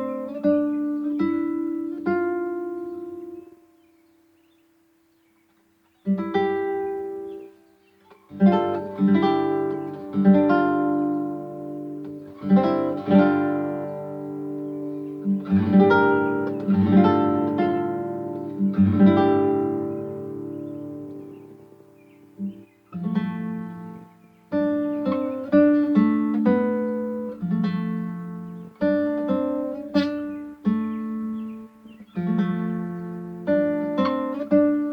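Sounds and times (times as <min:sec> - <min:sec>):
acoustic guitar chords: 0:00.0 - 0:34.9.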